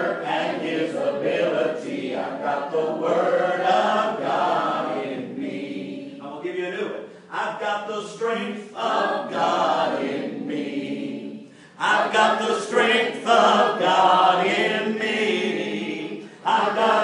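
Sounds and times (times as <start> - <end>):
congregation singing: 0.0 - 17.0.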